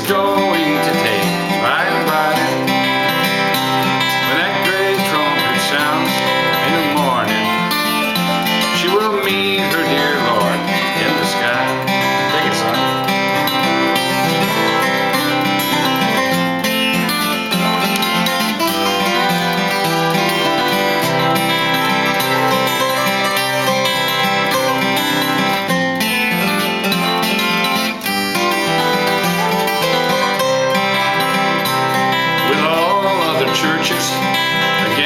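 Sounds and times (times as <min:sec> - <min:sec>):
acoustic guitar picking and strumming: 0:00.0 - 0:35.0.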